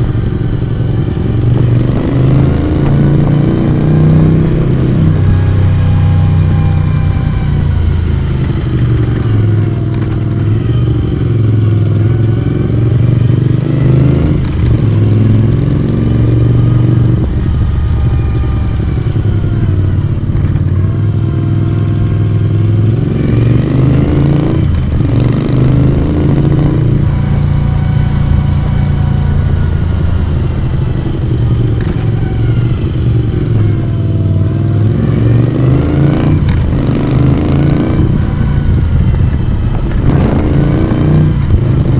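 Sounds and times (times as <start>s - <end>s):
motorcycle engine exhaust: 0.0s - 41.9s.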